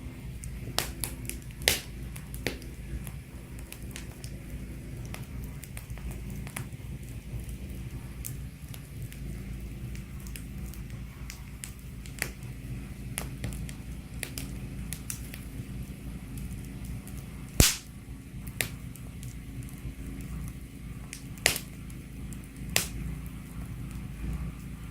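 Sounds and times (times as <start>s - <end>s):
low steady rumble: 0.0s - 24.9s
wood fire crackling: 0.0s - 24.9s.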